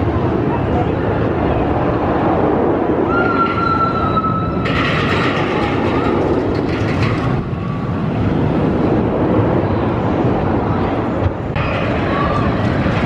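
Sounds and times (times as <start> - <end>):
roller coaster wheels rumbling on rails: 0.0 - 13.0.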